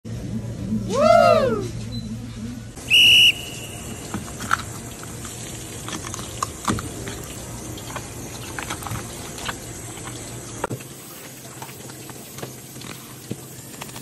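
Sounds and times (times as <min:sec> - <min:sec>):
low hum: 0:00.1 - 0:13.9
steady hiss: 0:02.8 - 0:14.0.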